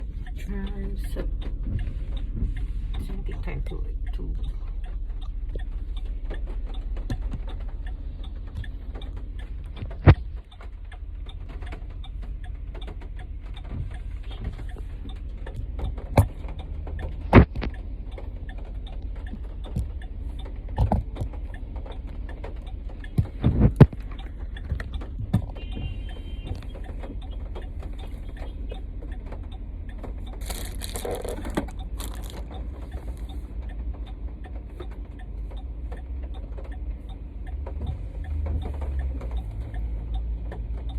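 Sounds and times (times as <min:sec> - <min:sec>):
car rumbling on road: 0:00.0 - 0:40.9
rain ticking and tapping: 0:00.0 - 0:40.9.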